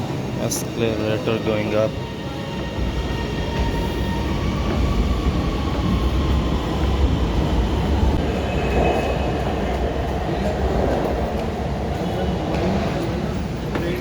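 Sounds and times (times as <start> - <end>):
metro train rumble: 0.0 - 14.0.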